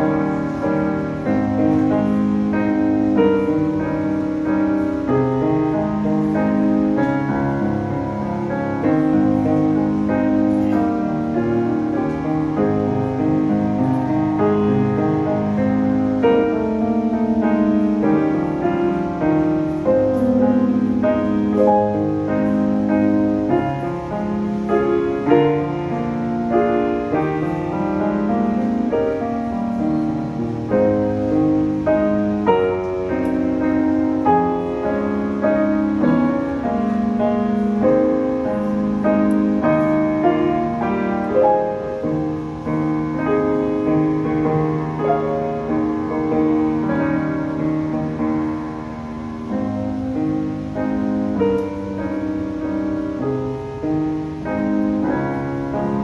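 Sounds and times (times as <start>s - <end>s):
slow gentle piano piece: 0.0s - 56.0s.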